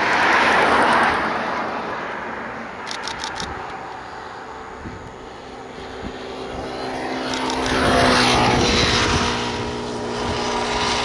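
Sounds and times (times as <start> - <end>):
passing vehicle rushing: 0.0 - 11.0.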